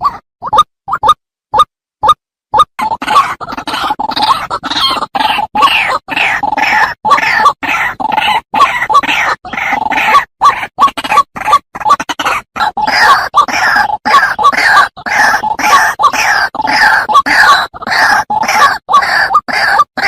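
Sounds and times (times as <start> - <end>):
waterhen harsh croaking calls: 0.0 - 20.0.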